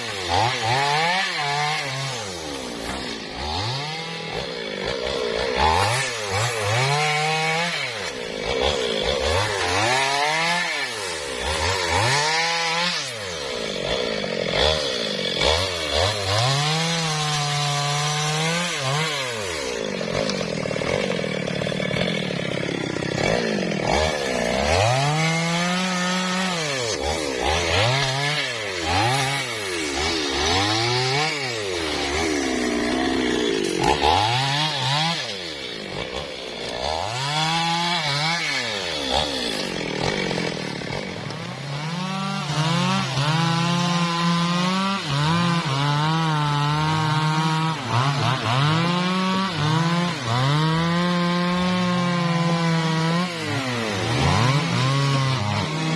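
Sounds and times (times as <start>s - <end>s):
chainsaw cutting wood revving: 0.0s - 55.9s.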